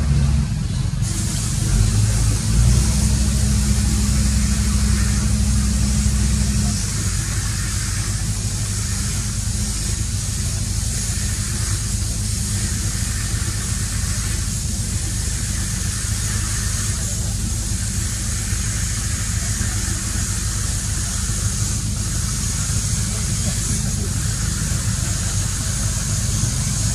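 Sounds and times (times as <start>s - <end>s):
low engine-like hum: 0.0s - 26.9s
constant hiss: 1.0s - 26.9s.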